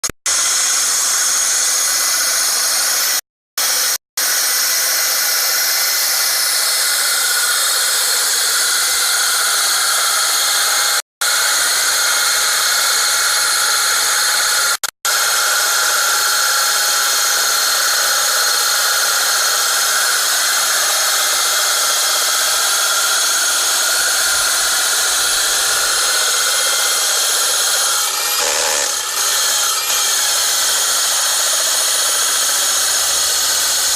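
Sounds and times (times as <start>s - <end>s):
rotary hammer grinding whine: 0.0s - 33.9s.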